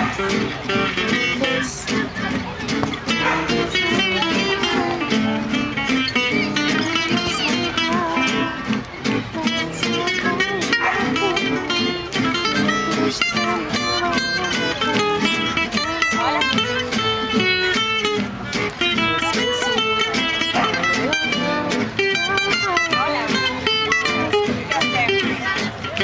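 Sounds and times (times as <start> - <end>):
plucked guitar melody: 0.0 - 26.0
strummed guitar chords: 0.0 - 26.0.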